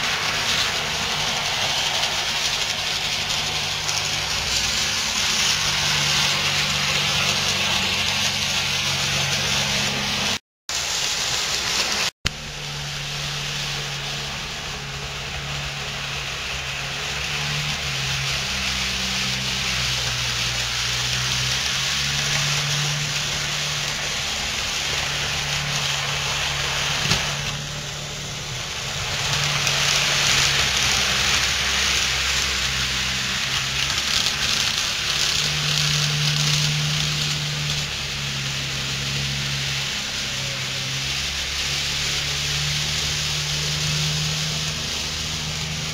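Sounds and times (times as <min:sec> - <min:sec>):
model train motor hum: 0:00.0 - 0:45.9
steady hiss: 0:00.0 - 0:45.9.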